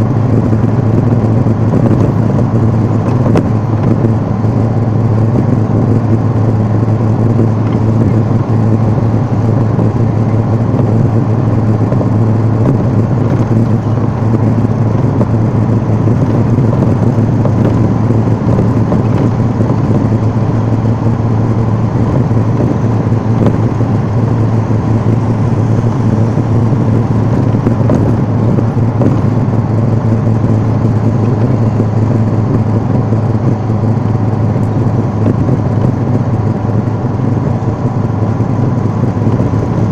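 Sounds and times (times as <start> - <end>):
tyre and traffic noise: 0.0 - 39.9
vehicle engine drone from inside: 0.0 - 39.9.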